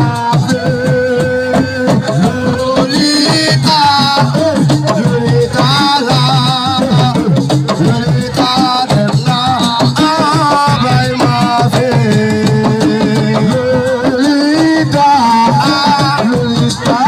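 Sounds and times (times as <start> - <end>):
hand drums: 0.0 - 17.0.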